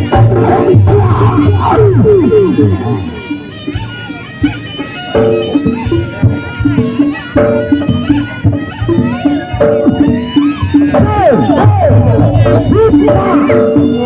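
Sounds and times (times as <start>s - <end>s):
drums: 0.0s - 14.0s
reedy shawm melody: 0.0s - 14.0s.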